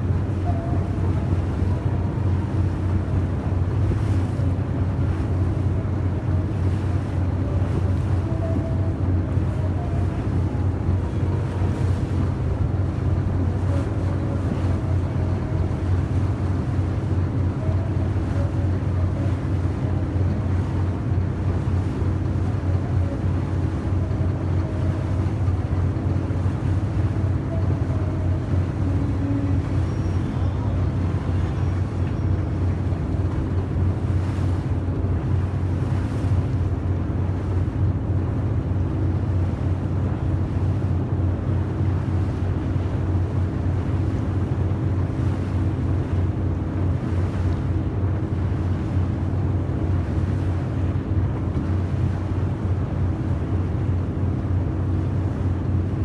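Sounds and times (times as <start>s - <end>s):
boat engine droning: 0.0s - 56.0s
wind and water hiss: 0.0s - 56.0s.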